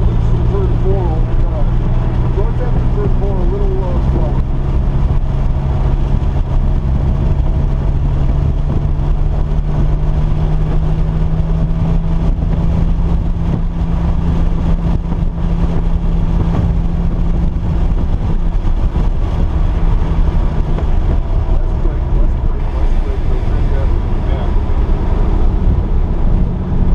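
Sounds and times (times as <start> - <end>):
car engine running: 0.0 - 26.9.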